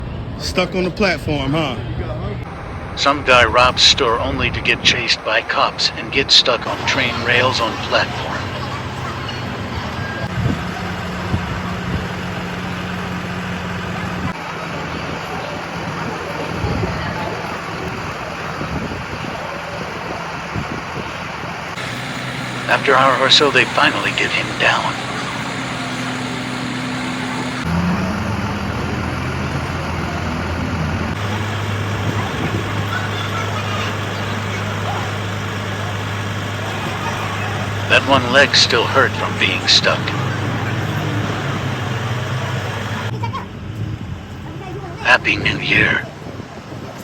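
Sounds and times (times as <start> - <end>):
traffic noise: 0.0 - 47.0
low engine hum: 1.0 - 45.6.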